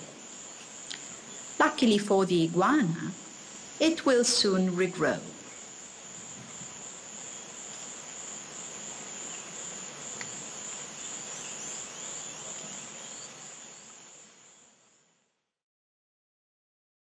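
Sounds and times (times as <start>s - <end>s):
insects chirring: 0.0s - 15.4s.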